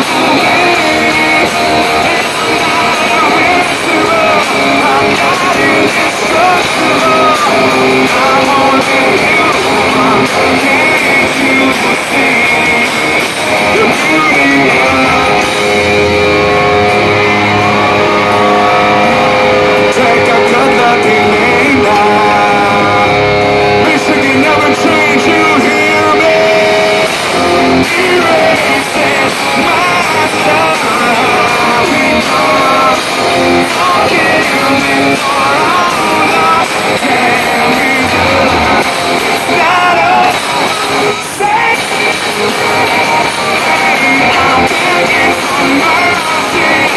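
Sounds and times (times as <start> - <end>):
drums: 0.0 - 46.9
electric guitars: 0.0 - 46.9
person singing: 0.0 - 46.9.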